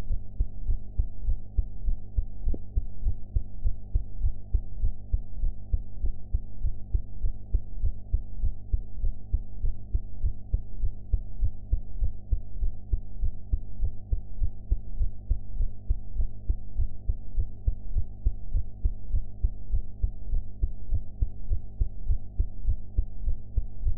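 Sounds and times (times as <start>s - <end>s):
faint low hum: 0.0s - 23.9s
heartbeat thumps: 0.1s - 23.9s.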